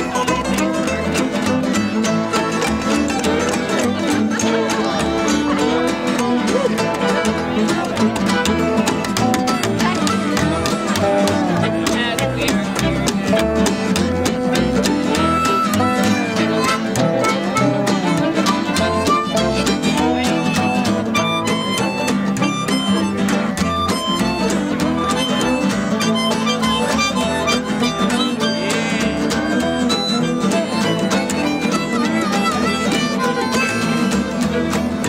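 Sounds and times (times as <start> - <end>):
bluegrass band playing: 0.0 - 35.0
harmonica lead: 0.0 - 35.0.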